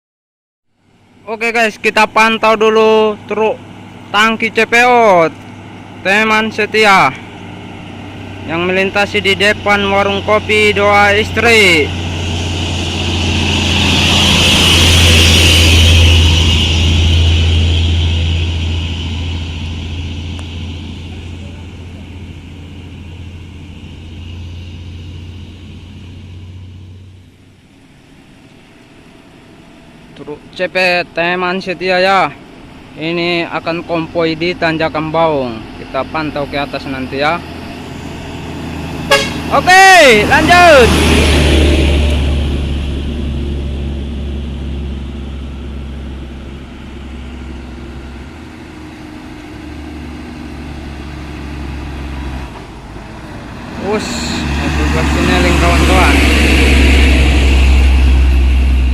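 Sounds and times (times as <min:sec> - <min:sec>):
road rumble: 0:00.7 - 0:58.9
truck engine passing: 0:00.8 - 0:58.9.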